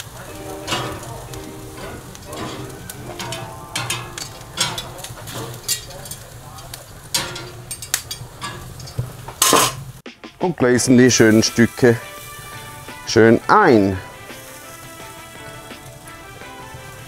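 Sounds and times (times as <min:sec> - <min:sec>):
meat sizzling on a grill: 0:00.0 - 0:10.0, 0:10.9 - 0:17.0
fat crackling and popping: 0:00.0 - 0:17.0.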